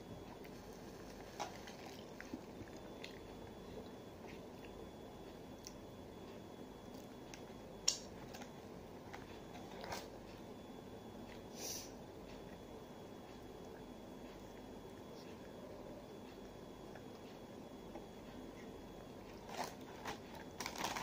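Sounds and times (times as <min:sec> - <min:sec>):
children chewing crispy food: 0:00.2 - 0:10.5, 0:11.2 - 0:21.0.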